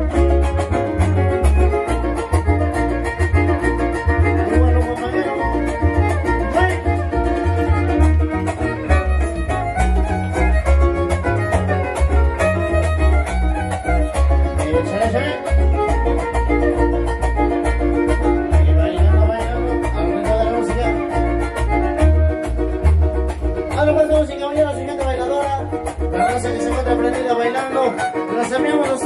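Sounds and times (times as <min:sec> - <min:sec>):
pulsing bass beat: 0:00.0 - 0:29.0
strummed guitars: 0:00.0 - 0:29.0
violin melody: 0:00.0 - 0:29.0.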